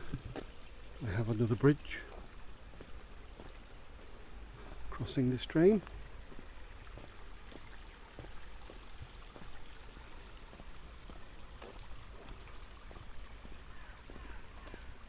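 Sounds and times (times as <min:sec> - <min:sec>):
small stream running: 0:00.0 - 0:15.0.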